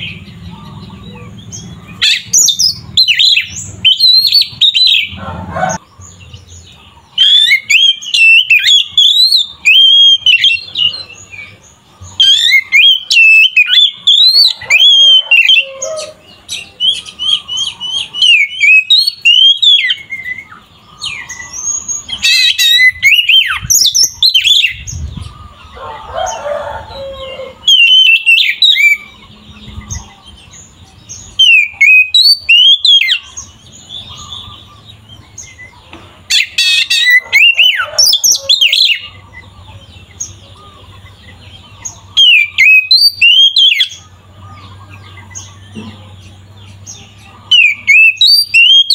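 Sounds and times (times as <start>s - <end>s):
bird singing whistled notes: 0.0s - 5.2s, 5.8s - 25.3s, 27.6s - 35.7s, 40.6s - 46.0s, 46.7s - 48.9s.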